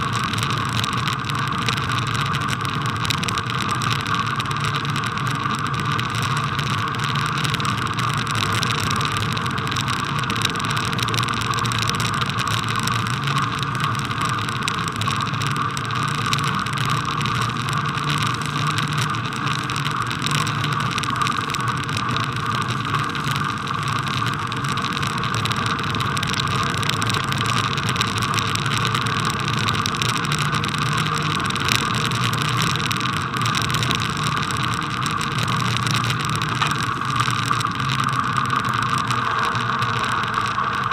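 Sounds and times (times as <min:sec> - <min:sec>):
bicycle riding on snow: 0:00.0 - 0:40.9.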